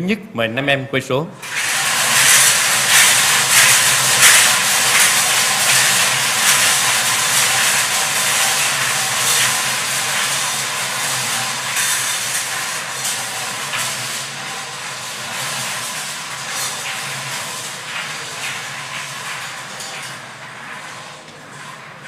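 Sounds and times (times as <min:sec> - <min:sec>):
balls rattling in wire cages: 0:01.5 - 0:22.0.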